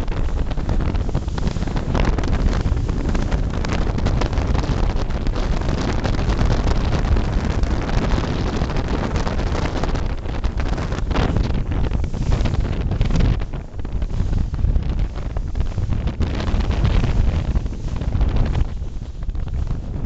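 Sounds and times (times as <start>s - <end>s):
seawater rushing along boat: 0.0s - 20.0s
wind buffeting microphone: 0.0s - 20.0s.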